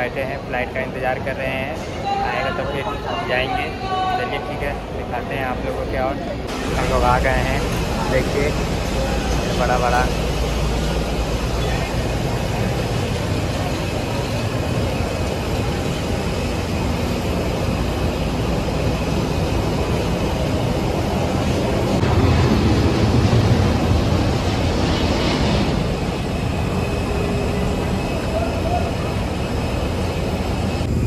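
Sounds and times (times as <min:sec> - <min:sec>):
jet aircraft engines running: 0:00.0 - 0:31.0
vehicle engines: 0:00.0 - 0:31.0.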